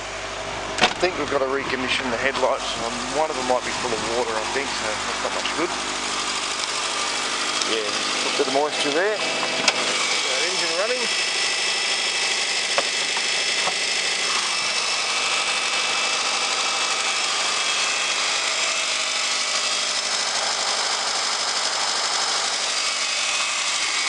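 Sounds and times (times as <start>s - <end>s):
car engine idling: 0.0s - 22.8s.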